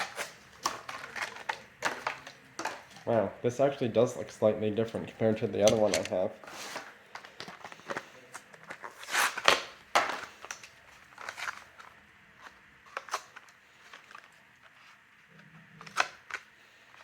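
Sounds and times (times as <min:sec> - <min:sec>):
plastic packaging crinkling: 0:00.0 - 0:03.3, 0:05.7 - 0:17.0.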